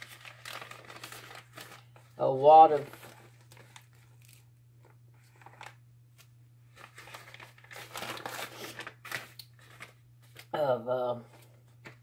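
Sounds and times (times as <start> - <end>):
plastic baggies crinkling: 0.0 - 5.8, 6.7 - 10.5.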